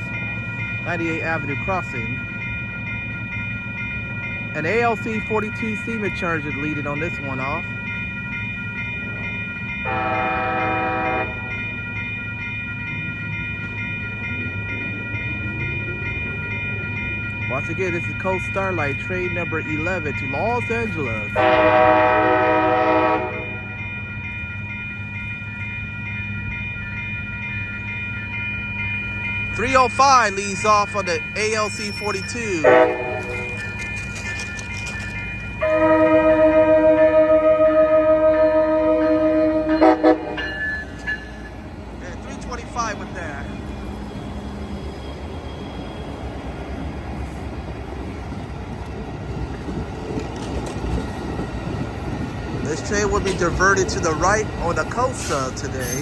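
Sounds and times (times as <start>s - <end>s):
crossing warning bell ringing: 0.0s - 56.0s
train rumbling past: 0.0s - 56.0s.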